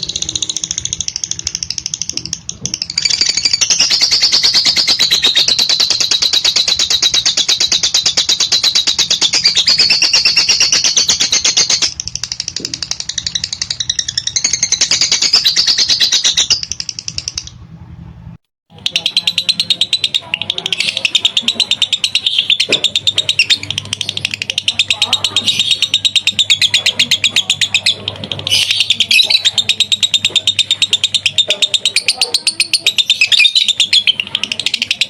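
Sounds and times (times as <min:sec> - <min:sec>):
lovebird chattering trill: 0:00.0 - 0:17.7, 0:18.7 - 0:35.0.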